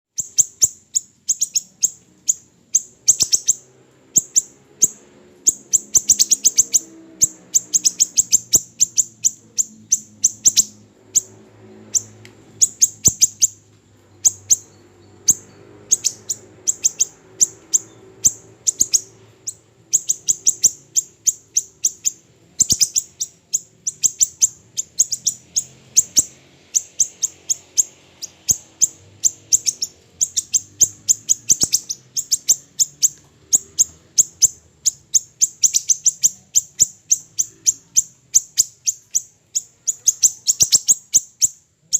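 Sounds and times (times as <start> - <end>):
songbird high sharp chirps: 0.1 - 41.9
faint low hum: 0.2 - 41.9.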